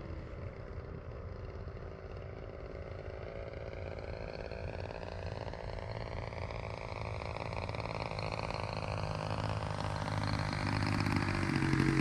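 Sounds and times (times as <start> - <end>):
model plane engine: 0.0 - 12.0.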